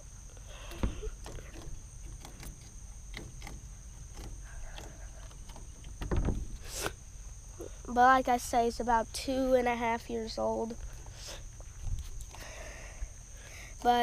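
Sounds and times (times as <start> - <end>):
insect chorus chirring: 0.0 - 14.0.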